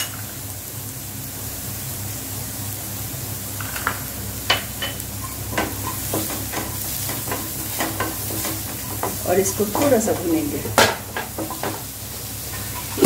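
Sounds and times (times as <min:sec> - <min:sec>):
onions sizzling in butter: 0:00.0 - 0:13.0
ticks and pops of frying: 0:00.0 - 0:13.0.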